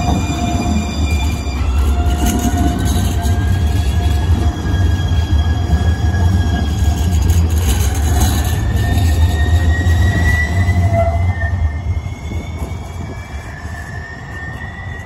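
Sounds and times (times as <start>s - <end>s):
light rail train passing: 0.0s - 15.0s.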